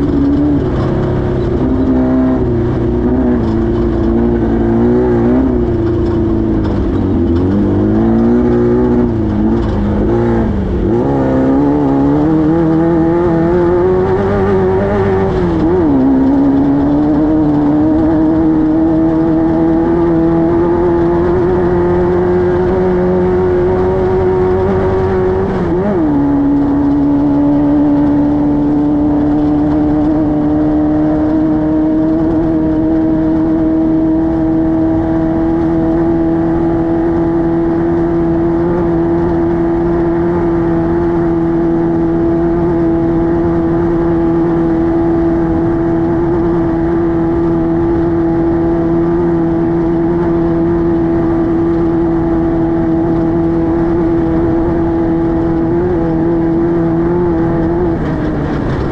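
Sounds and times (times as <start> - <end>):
race car engine running: 0.0 - 58.9.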